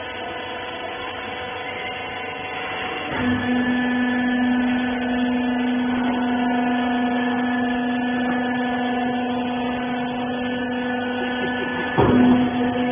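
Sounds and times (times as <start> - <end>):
hydraulic power unit humming: 0.0 - 12.9.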